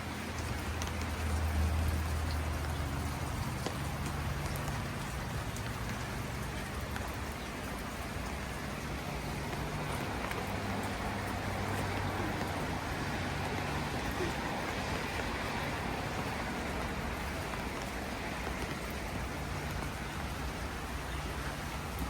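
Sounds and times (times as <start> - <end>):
heavy rain falling: 0.0 - 22.0
drops ticking: 0.1 - 22.0.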